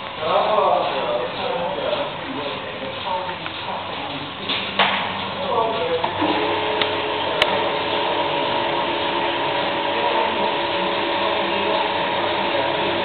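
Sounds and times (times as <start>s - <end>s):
milking machinery humming: 0.0s - 13.0s.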